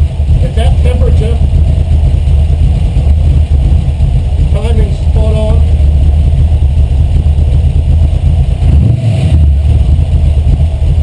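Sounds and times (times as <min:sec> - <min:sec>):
vee eight engine rumbling: 0:00.0 - 0:11.0.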